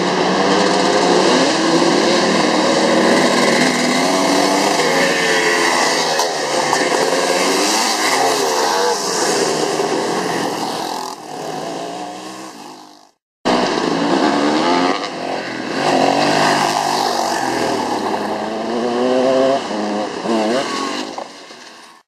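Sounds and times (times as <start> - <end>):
dirt bikes passing at full throttle: 0.0 - 22.0
dirt bikes revving: 0.0 - 22.0.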